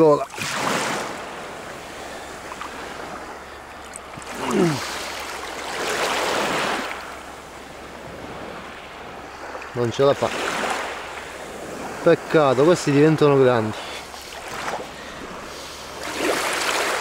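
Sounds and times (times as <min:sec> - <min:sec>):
waves washing over pebbles: 0:00.0 - 0:07.4, 0:08.0 - 0:17.0.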